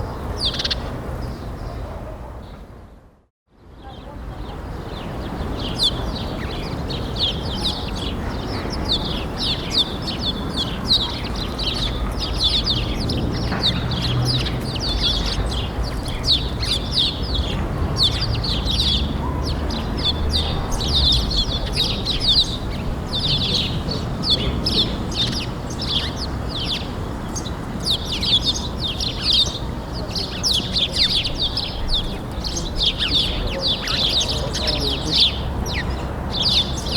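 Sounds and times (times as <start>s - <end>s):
flock of small birds chirping: 0.0s - 2.7s, 3.6s - 36.9s.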